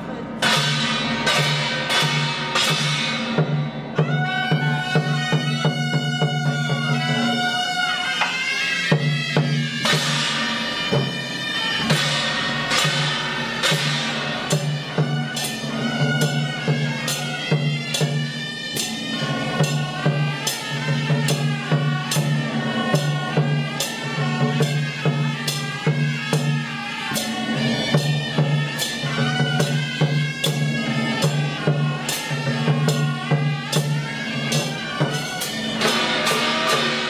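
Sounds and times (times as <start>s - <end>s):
large drum beating: 0.0s - 7.5s, 8.1s - 37.0s
hand gongs and cymbals: 0.0s - 37.0s
shrill reed horn melody: 4.0s - 25.7s, 26.9s - 37.0s.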